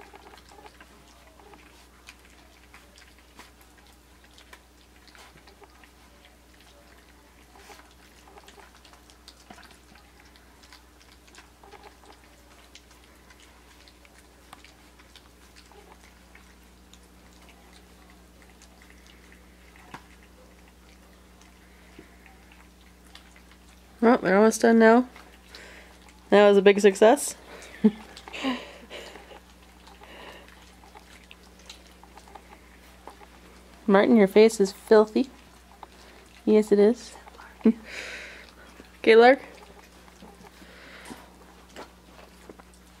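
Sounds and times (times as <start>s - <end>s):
puppies lapping wet food: 0.0s - 43.0s.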